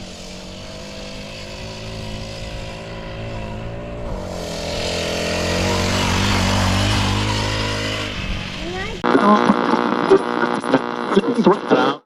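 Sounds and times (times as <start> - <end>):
mini bike engine running: 0.0 - 11.0.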